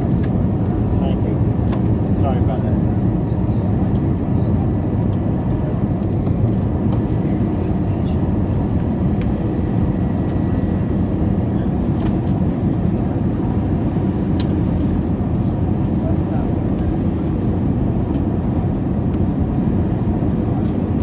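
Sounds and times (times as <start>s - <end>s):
airplane engine and airflow drone: 0.0s - 21.0s.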